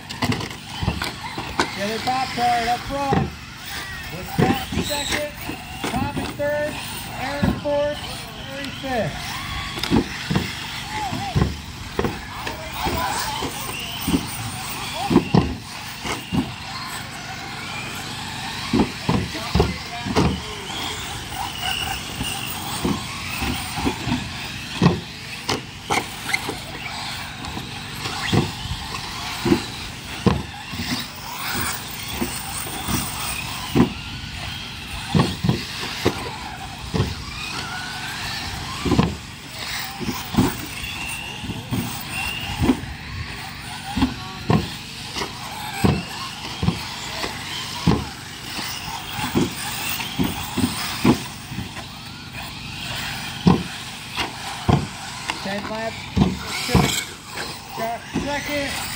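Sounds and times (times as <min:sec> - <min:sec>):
rc car motors passing: 0:00.0 - 0:58.9.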